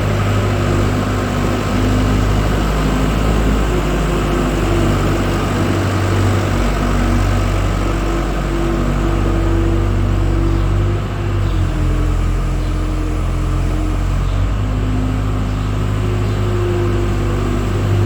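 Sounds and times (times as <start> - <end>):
farm machine engine running: 0.0 - 18.0.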